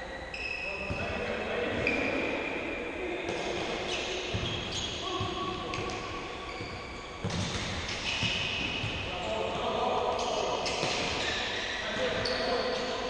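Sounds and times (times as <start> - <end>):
shoes squeaking on floor: 0.1 - 2.4, 3.7 - 13.0.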